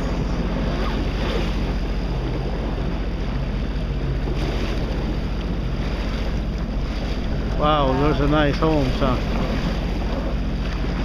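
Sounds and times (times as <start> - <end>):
jet ski engine humming: 0.0 - 11.0
water noise: 0.0 - 11.0
wind: 0.0 - 11.0.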